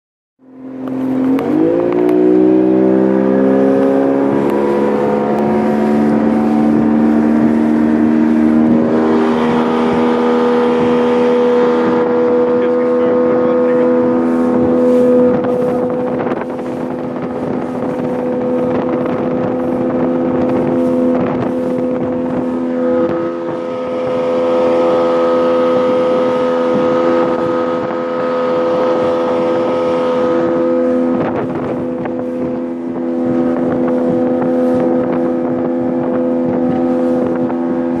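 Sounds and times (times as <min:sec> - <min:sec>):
outboard motor running: 0:00.4 - 0:38.0
wind buffeting microphone: 0:00.5 - 0:38.0.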